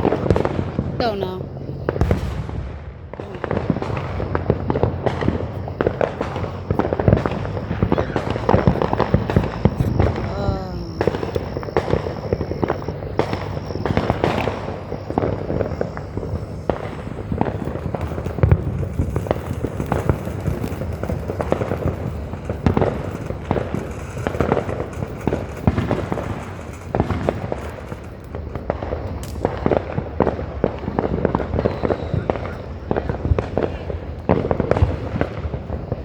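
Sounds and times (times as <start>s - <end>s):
fireworks popping and banging: 0.0s - 36.0s.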